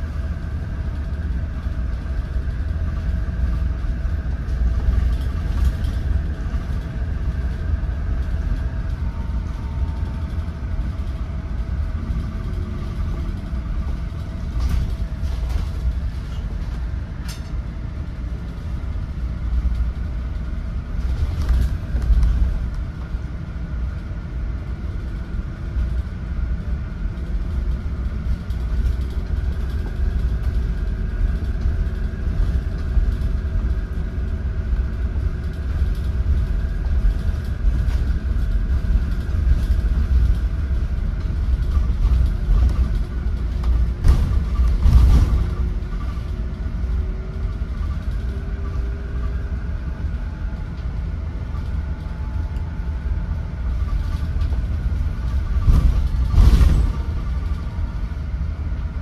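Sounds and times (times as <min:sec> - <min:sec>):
low road rumble: 0:00.0 - 0:59.0.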